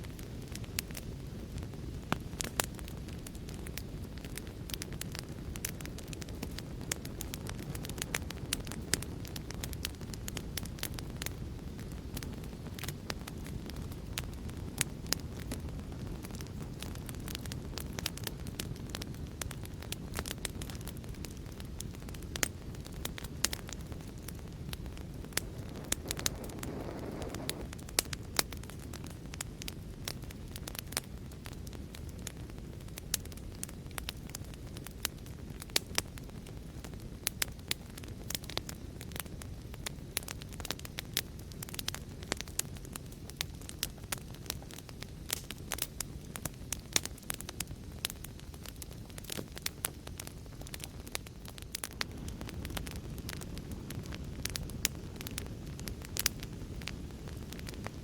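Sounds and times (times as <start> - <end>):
fire crackling and popping: 0.0 - 58.0
low fire rumble: 0.0 - 58.0.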